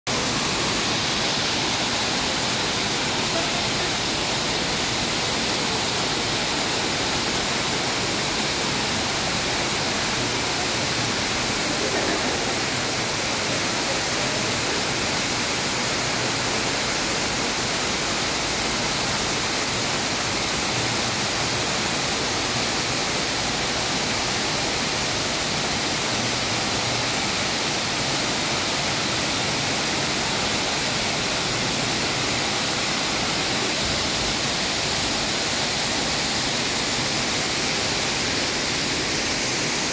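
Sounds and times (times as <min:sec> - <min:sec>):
waterfall splashing hiss: 0:00.1 - 0:39.9.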